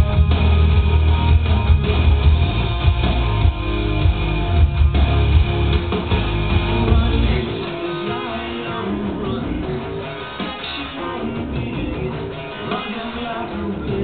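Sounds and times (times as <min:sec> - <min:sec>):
guitar music from vinyl record: 0:00.0 - 0:14.0.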